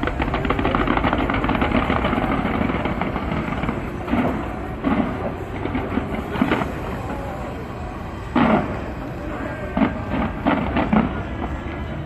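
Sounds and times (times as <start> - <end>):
fireworks rumbling and crackling: 0.0 - 12.0
heavy firework bursts: 0.0 - 12.0.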